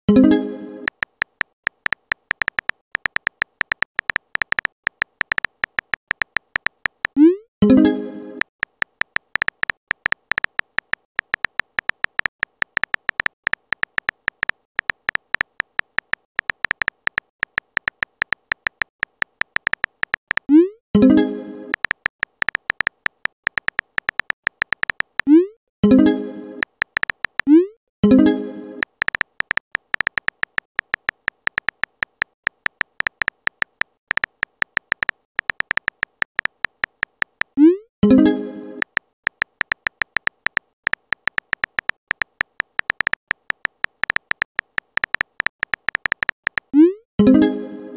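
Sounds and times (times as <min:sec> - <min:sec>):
keyboard tap clicks: 0:00.9 - 0:07.3, 0:08.4 - 0:20.5, 0:21.7 - 0:25.3, 0:26.6 - 0:27.5, 0:28.8 - 0:37.6, 0:38.8 - 0:46.7.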